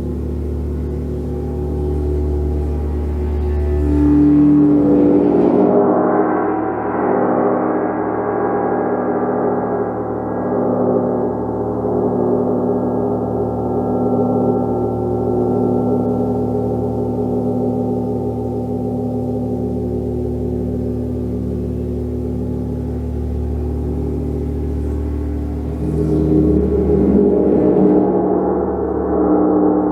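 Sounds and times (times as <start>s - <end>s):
large gong ringing: 0.0s - 29.9s.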